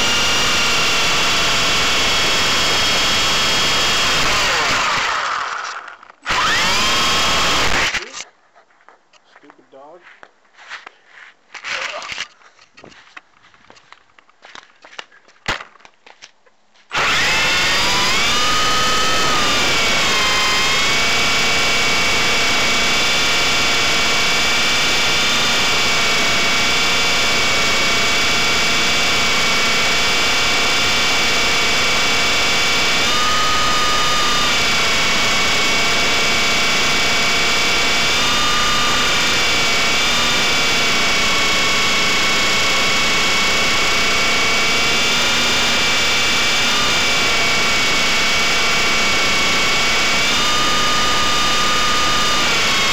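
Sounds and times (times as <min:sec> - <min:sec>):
rc helicopter motor whining: 0:00.0 - 0:08.2, 0:16.9 - 0:52.9.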